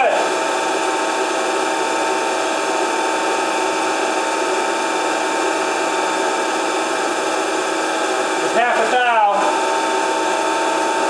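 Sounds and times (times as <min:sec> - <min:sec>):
grinding machine whining: 0:00.0 - 0:11.0.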